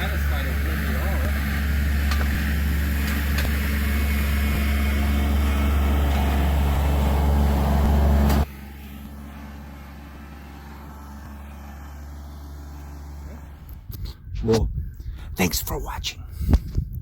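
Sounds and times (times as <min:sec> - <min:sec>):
vehicle engine running: 0:00.0 - 0:15.2.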